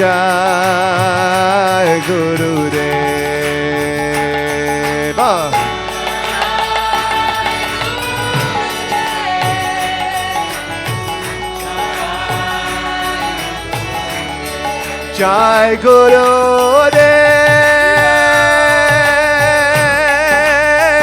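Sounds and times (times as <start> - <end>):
sustained chords: 0.0 - 21.0
voices chanting: 1.4 - 21.0.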